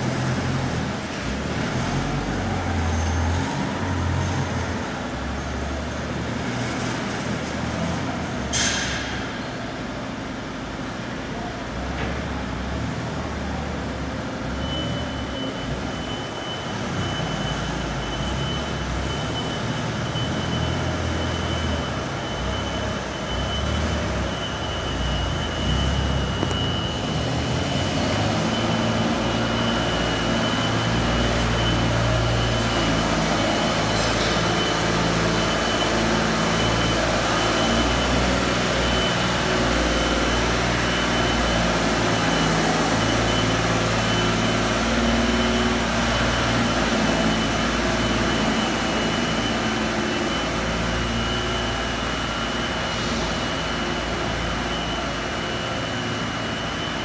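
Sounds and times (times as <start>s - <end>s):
forklift engine running: 0.0s - 57.0s.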